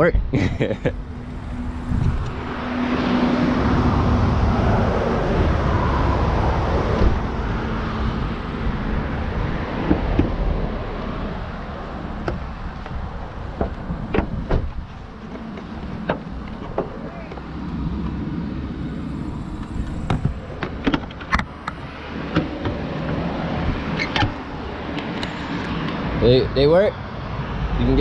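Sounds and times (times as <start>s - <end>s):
road traffic rushing: 0.0s - 28.0s.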